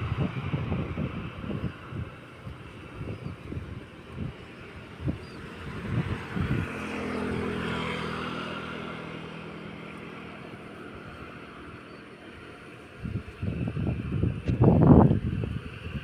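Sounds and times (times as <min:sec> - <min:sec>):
vehicle engine passing: 0:00.0 - 0:15.6.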